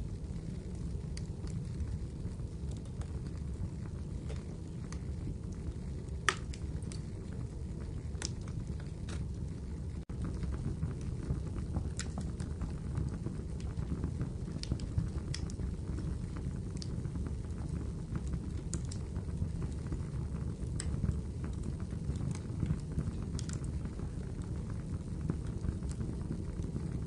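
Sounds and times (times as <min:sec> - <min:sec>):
fire flames rumbling: 0:00.0 - 0:27.0
wood fire crackling and popping: 0:00.0 - 0:27.0.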